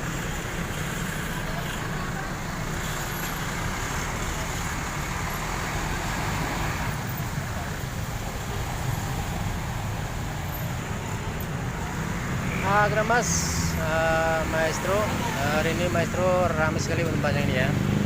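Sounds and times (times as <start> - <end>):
road traffic engines: 0.0 - 18.0.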